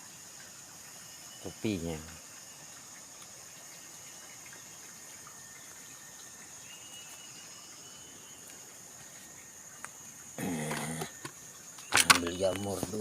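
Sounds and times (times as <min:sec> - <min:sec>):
faint even hiss: 0:00.0 - 0:13.0
high-pitched insect drone: 0:00.0 - 0:13.0.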